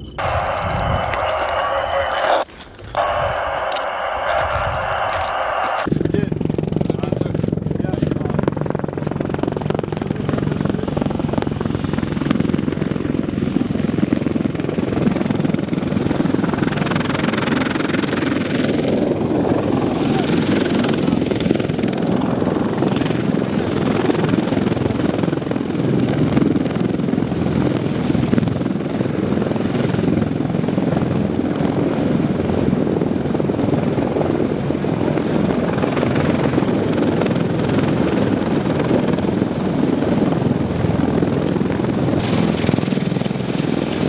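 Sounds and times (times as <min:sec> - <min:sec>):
helicopter engines and rotor: 0:00.0 - 0:44.0.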